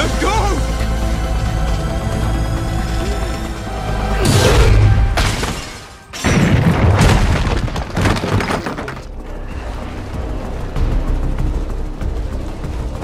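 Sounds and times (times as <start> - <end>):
film music: 0.0 - 13.0.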